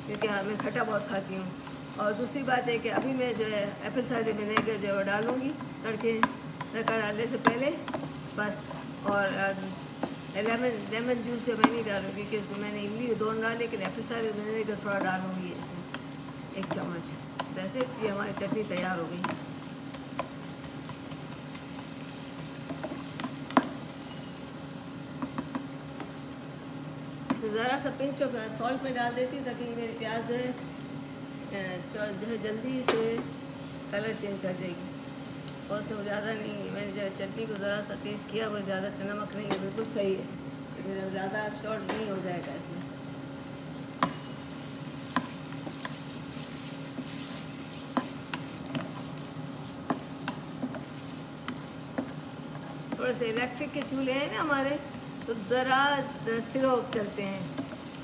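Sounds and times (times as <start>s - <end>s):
onions frying in oil: 0.0s - 58.0s
steady low hum: 0.0s - 58.0s.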